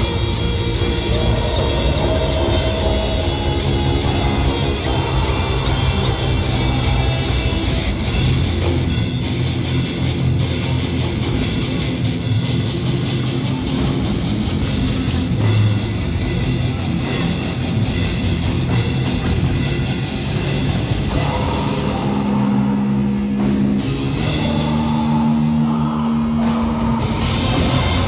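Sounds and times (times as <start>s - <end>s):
distorted electric guitars: 0.0s - 28.0s
pounding drum kit: 0.0s - 28.0s.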